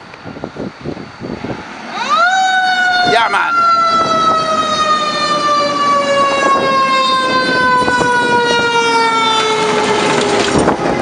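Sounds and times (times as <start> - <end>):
truck engine and road noise: 0.0 - 11.0
fire truck siren: 0.9 - 11.0.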